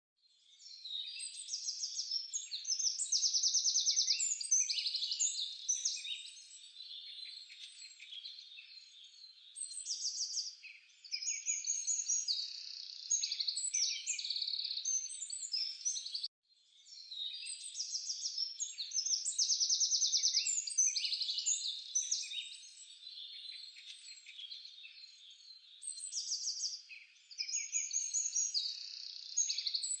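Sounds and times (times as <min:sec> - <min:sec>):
birds chirping and trilling: 0:00.3 - 0:30.0.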